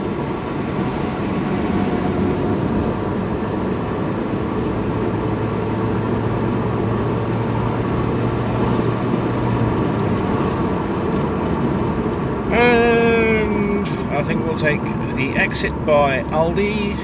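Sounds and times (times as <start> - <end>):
car interior road and engine noise: 0.0 - 17.0.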